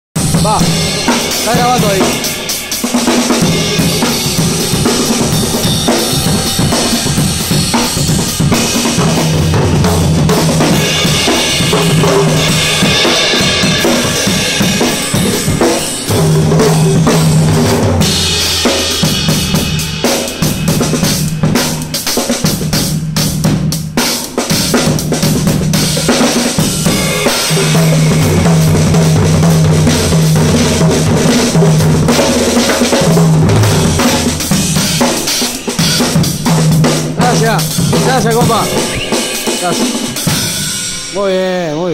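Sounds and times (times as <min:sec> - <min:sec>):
drum kit groove: 0:00.2 - 0:41.9.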